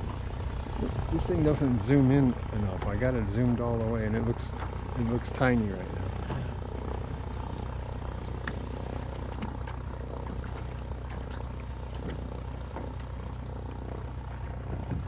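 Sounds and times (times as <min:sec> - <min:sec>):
distant propeller engine drone: 0:00.0 - 0:15.0.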